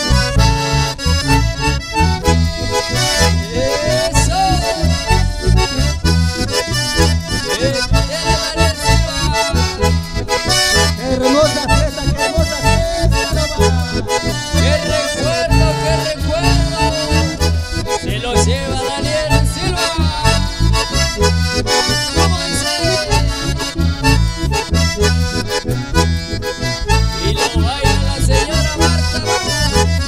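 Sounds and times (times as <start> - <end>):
acoustic guitar: 0.0 - 30.0
button accordion and bandoneon melody: 0.0 - 30.0
electric bass: 0.0 - 30.0
steady beat: 0.4 - 29.8.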